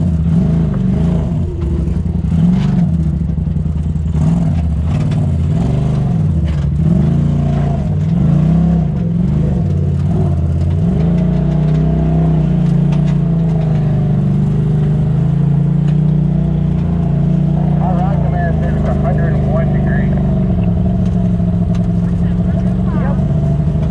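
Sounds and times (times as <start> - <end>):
engine revving: 0.0 - 23.9.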